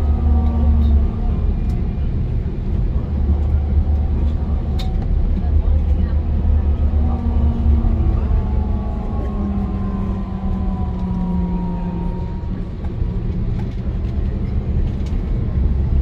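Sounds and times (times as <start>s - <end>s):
faint whine: 0.0s - 15.5s
vehicle rumble: 0.0s - 16.0s.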